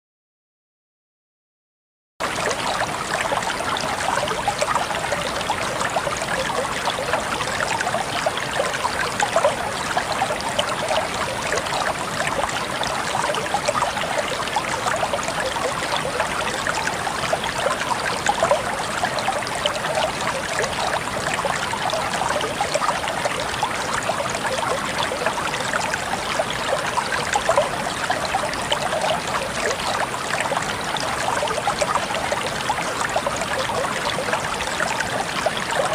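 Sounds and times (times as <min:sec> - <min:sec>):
water trickling: 0:02.2 - 0:35.9.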